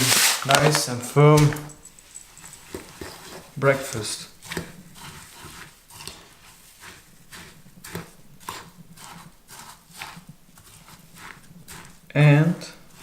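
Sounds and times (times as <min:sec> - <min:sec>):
spoon stirring in a bowl: 0:01.7 - 0:13.0.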